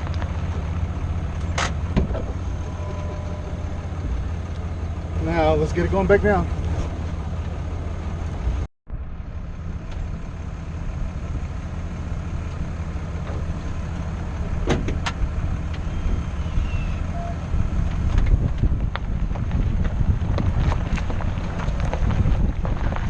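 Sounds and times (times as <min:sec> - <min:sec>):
engine and tyre rumble: 0:00.0 - 0:23.0.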